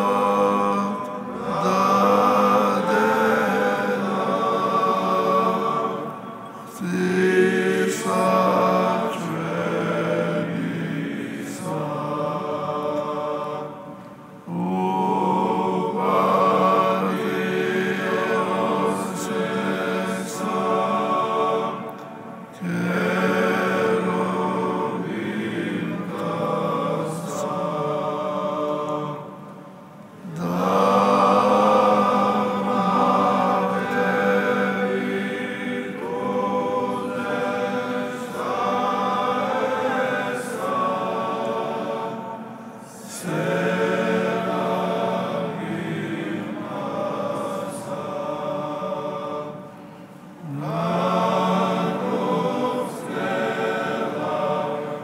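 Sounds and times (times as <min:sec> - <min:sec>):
choir chanting in harmony: 0:00.0 - 0:55.0.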